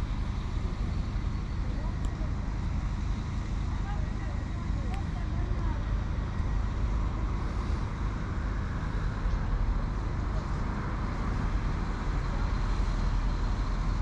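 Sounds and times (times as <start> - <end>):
diesel train engines idling: 0.0 - 14.0.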